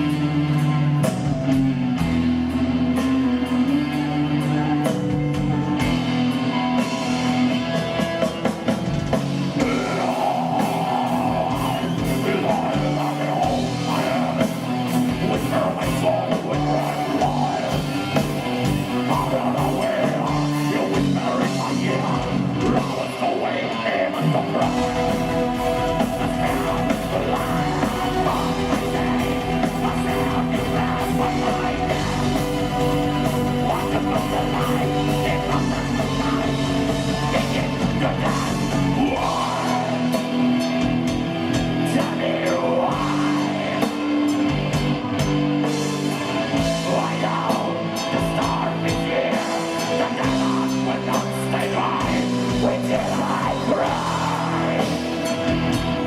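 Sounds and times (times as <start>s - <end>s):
metal band playing: 0.0s - 56.0s.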